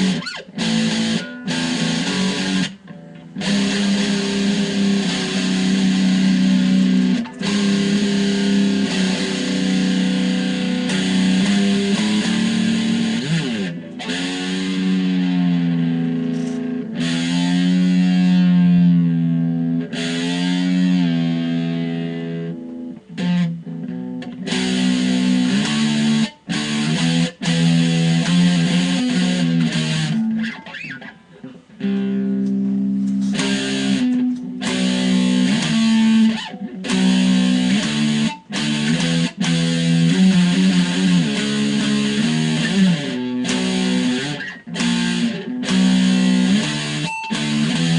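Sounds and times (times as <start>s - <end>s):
electric guitar chords and bends: 0.0s - 47.9s.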